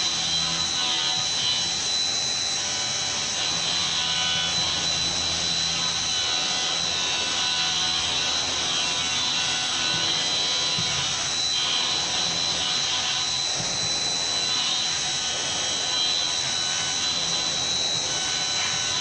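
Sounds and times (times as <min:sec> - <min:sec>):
milling machine spindle whine: 0:00.0 - 0:19.0.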